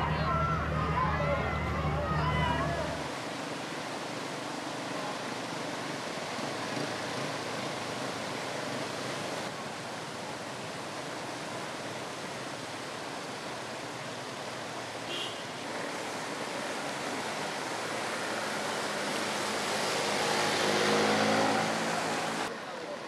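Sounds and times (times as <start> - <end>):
traffic splashing through floodwater: 0.0 - 23.0
vehicle engine: 0.0 - 23.0.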